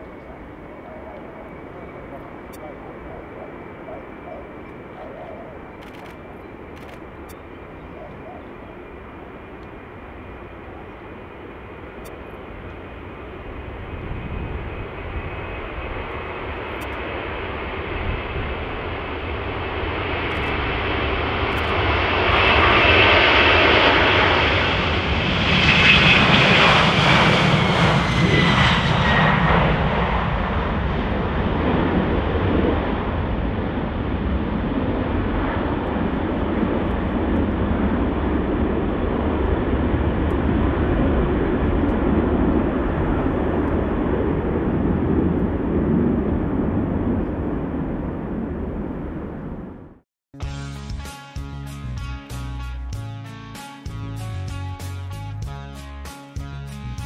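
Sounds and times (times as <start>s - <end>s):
jet engines at takeoff: 0.0s - 50.0s.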